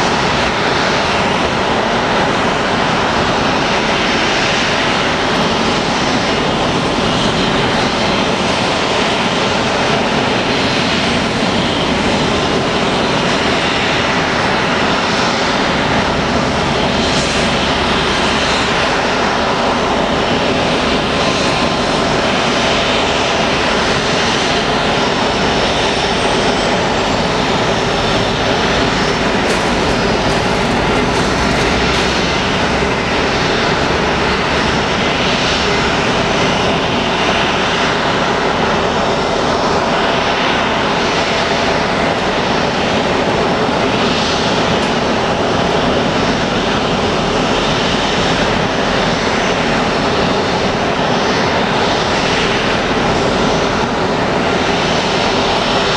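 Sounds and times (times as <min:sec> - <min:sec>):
jet engines idling: 0:00.0 - 0:55.9.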